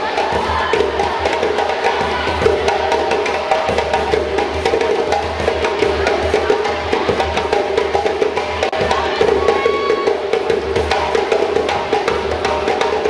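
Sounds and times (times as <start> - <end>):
fast sharp drumming: 0.0 - 13.0.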